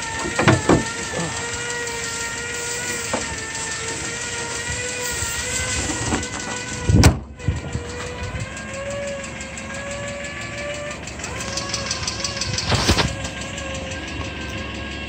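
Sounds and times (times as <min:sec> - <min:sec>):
car engine idling: 0:00.0 - 0:15.0
whining tone: 0:00.0 - 0:15.0.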